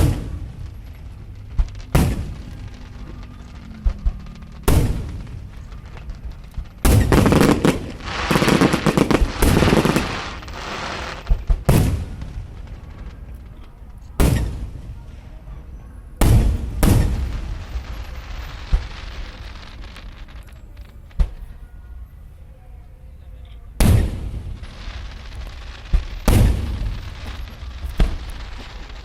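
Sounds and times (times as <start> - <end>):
fireworks bursting with bangs: 0.0 - 22.4, 23.7 - 29.0
rapid crackling of fireworks: 0.0 - 29.0.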